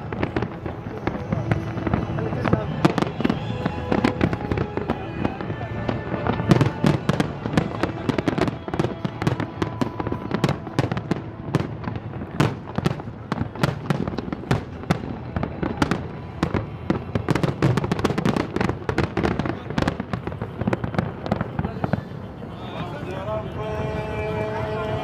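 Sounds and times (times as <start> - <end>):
fireworks bangs and crackles: 0.0 - 25.0
low rumble of explosions: 0.0 - 25.0.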